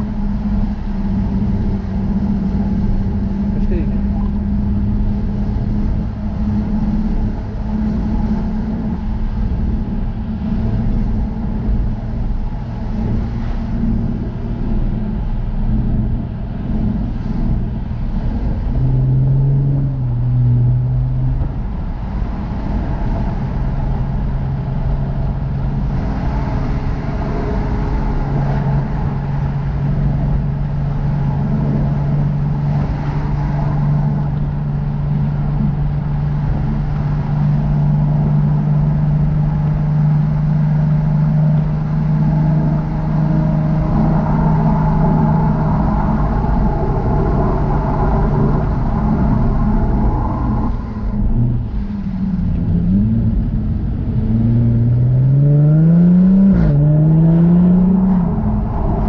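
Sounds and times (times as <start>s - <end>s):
road and wind noise: 0.0s - 59.0s
sports car engine running: 0.0s - 59.0s.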